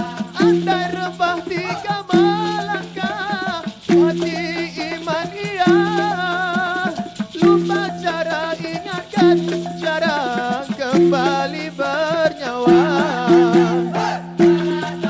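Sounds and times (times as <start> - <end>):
man singing into a microphone: 0.0 - 15.0
maracas and hand percussion: 0.0 - 15.0.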